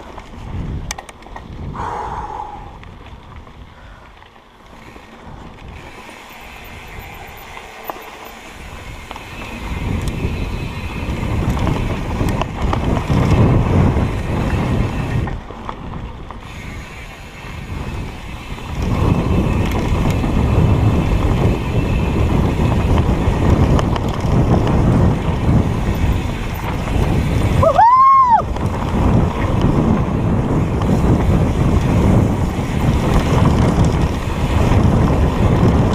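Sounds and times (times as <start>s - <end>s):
bike tyres and frame rattling: 0.0s - 35.9s
wind buffeting microphone: 0.0s - 35.9s.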